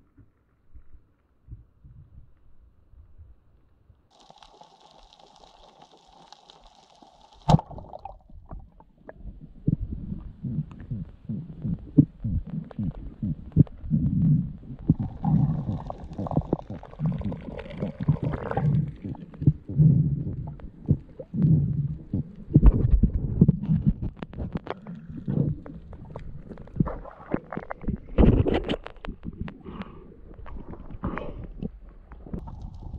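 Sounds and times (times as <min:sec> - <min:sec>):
sharp underwater clicks: 0:04.1 - 0:08.6, 0:10.6 - 0:32.9
underwater water movement pulses: 0:04.1 - 0:32.9.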